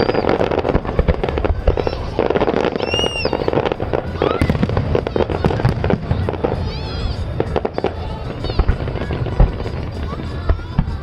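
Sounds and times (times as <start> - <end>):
firework high whistle: 0.0 - 11.0
fireworks booming and crackling: 0.0 - 11.0.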